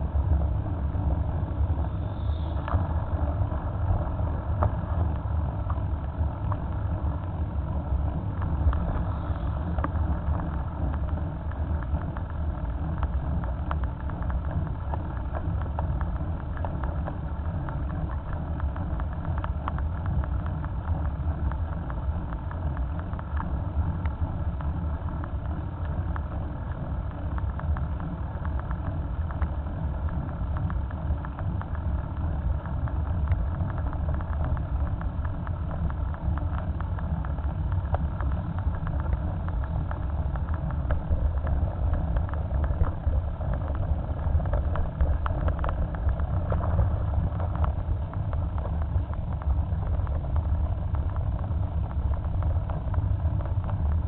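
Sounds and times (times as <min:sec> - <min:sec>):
wind rumble on microphone: 0:00.0 - 0:54.0
motorcycle riding: 0:00.2 - 0:54.0.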